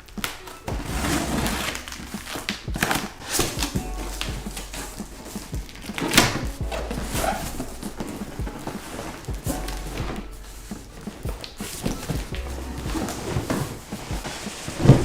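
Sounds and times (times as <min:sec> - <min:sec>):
cardboard box rustling: 0:00.0 - 0:12.3, 0:12.9 - 0:15.0.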